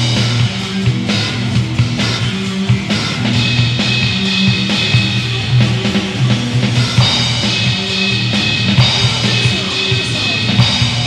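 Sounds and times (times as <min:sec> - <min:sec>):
electronic drum kit playing: 0:00.0 - 0:11.0
live hard rock band: 0:00.0 - 0:11.0.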